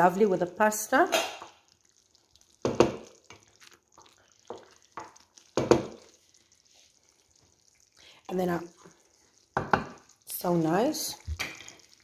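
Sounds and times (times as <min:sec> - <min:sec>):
spoon stirring thick gravy: 0:01.3 - 0:12.0.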